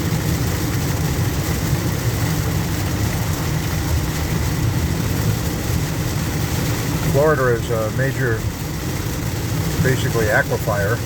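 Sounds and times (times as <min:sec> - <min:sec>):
car interior rumble on wet road: 0:00.0 - 0:11.0
hiss of rain and tyre spray: 0:00.0 - 0:11.0.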